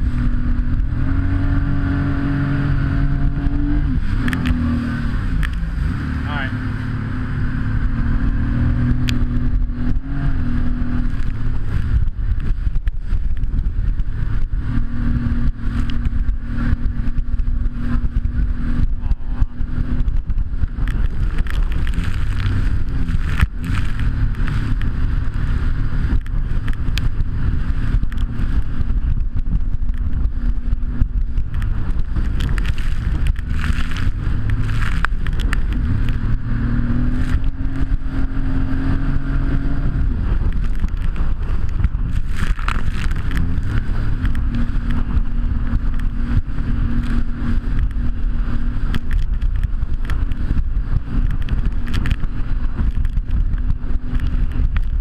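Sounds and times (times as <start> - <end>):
microphone clicks and rubbing: 0.0 - 6.0, 7.6 - 55.0
jet ski engine running: 0.0 - 55.0.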